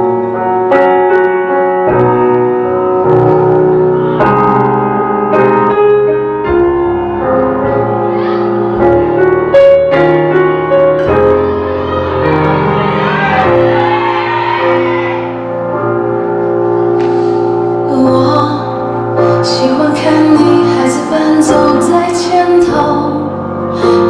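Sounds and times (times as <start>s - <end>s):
slow piano music: 0.0s - 24.0s.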